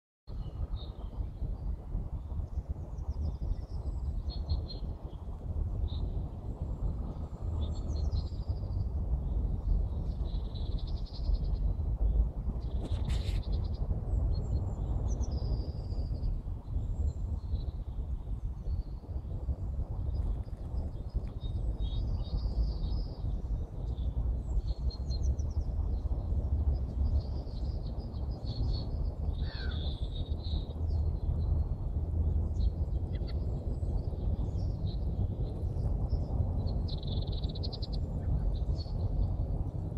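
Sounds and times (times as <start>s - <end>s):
songbirds chirping: 0.3s - 39.9s
steady low rumble: 0.3s - 39.9s.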